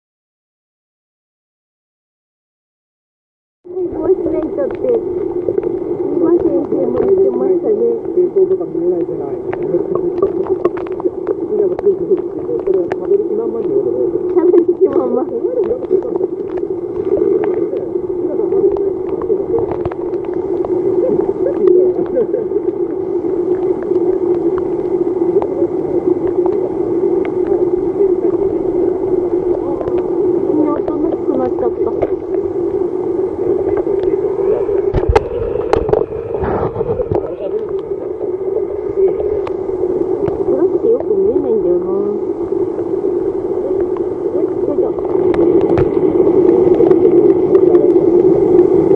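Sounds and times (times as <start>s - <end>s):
steady low drone: 3.6s - 48.9s
muffled voices above water: 3.7s - 48.9s.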